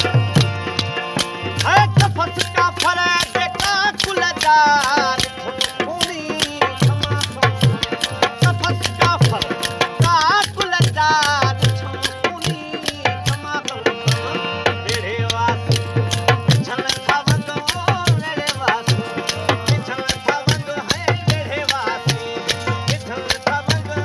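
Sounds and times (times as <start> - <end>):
hand drum quick steady beat: 0.0 - 24.0
harmonium held chords: 0.0 - 24.0
man singing: 0.0 - 24.0.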